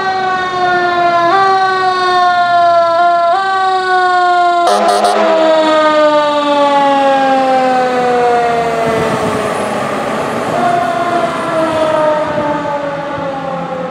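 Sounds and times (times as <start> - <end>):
fire engine siren wailing: 0.0 - 13.9.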